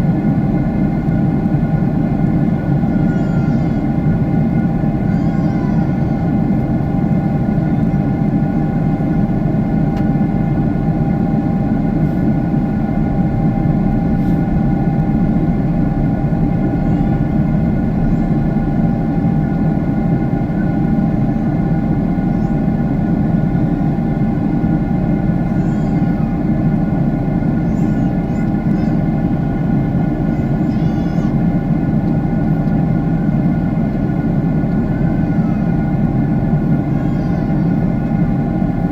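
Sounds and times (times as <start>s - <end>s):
jet cabin engine rushing hum: 0.0s - 38.9s.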